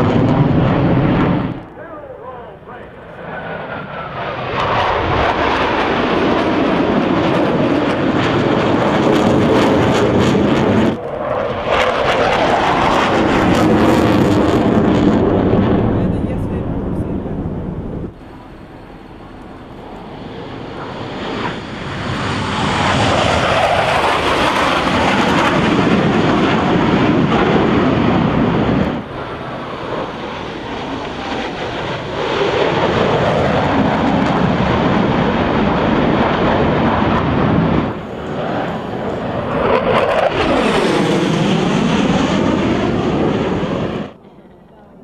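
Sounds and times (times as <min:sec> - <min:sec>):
jet engine roar: 0:00.0 - 0:45.0.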